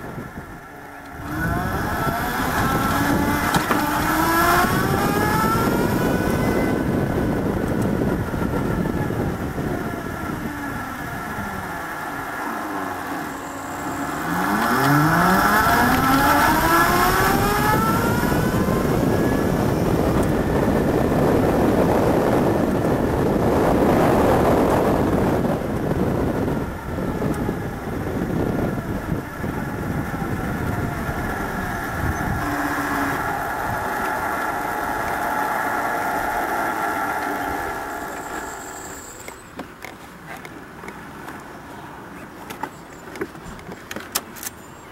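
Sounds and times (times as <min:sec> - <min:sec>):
electric motor whining: 0:00.0 - 0:39.6
wind and road rush: 0:00.0 - 0:44.9.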